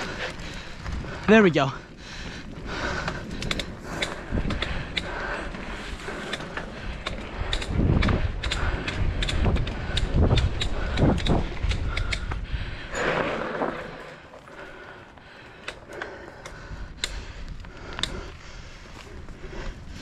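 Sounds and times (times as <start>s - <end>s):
bicycle rattling and creaking: 0.0s - 20.0s.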